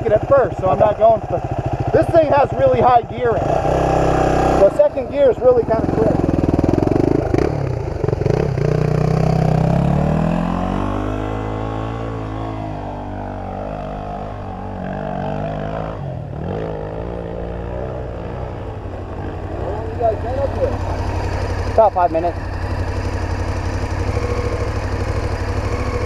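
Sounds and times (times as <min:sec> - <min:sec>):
dirt bike engine climbing: 0:00.0 - 0:26.0.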